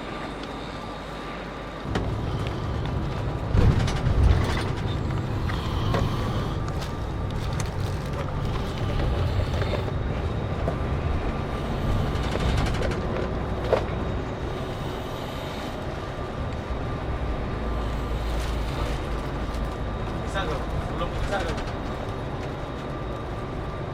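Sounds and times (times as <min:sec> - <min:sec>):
coach engine and road rumble: 0:00.0 - 0:23.9
rattles and creaks: 0:01.8 - 0:23.9.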